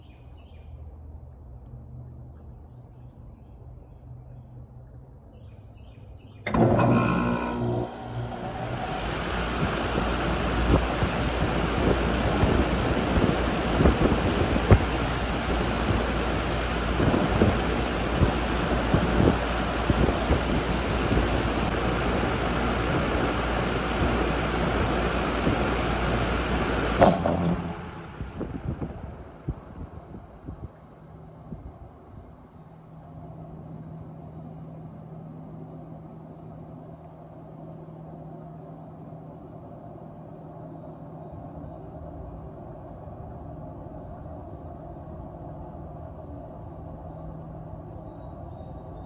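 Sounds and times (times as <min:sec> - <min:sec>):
condenser fan blowing air: 0:06.4 - 0:49.0
heat pump humming: 0:06.4 - 0:49.0.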